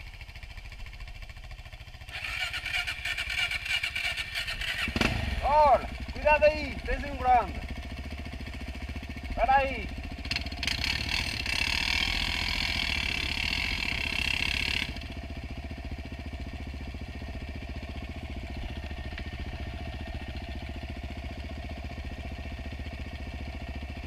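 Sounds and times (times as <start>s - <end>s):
quad bike engines at low revs: 0.0s - 24.0s.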